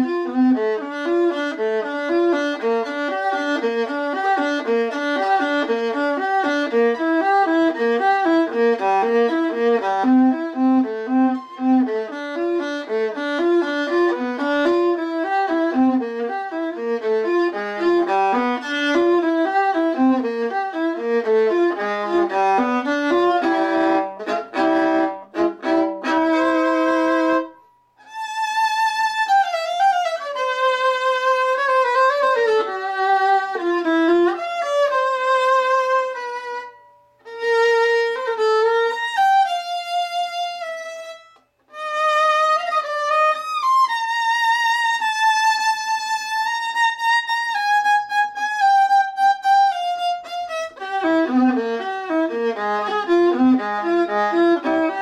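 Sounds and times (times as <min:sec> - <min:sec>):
solo violin playing: 0:00.0 - 0:55.0.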